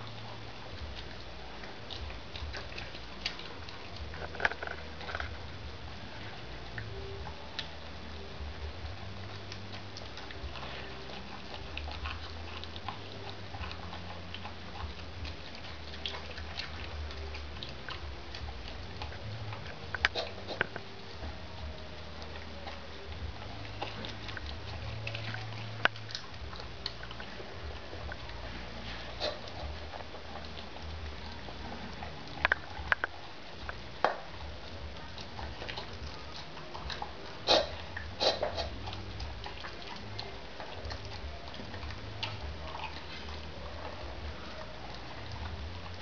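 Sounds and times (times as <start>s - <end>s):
dog chewing food: 0.0s - 46.0s
steady low hum: 0.0s - 46.0s.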